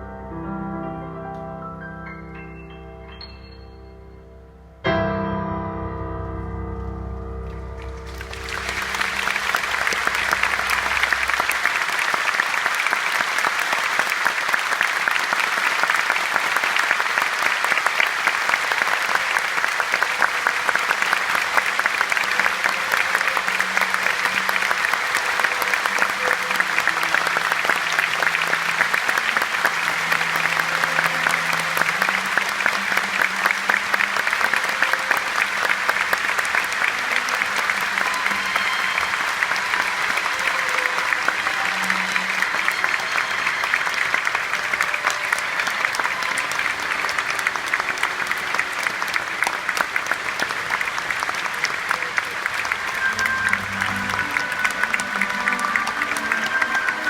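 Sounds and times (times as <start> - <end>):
piano notes: 0.0 - 12.3, 19.2 - 49.4, 52.0 - 57.0
audience applauding: 7.8 - 57.0.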